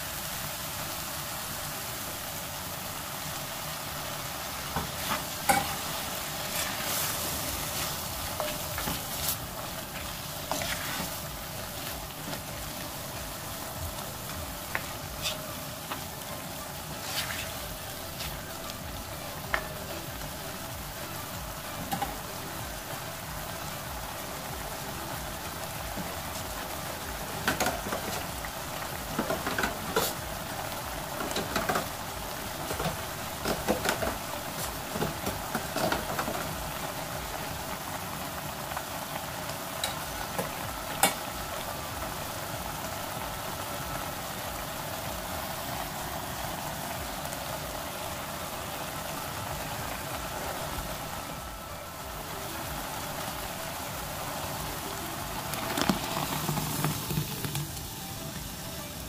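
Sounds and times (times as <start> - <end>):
meat and kimchi sizzling in a pot: 0.0 - 59.0.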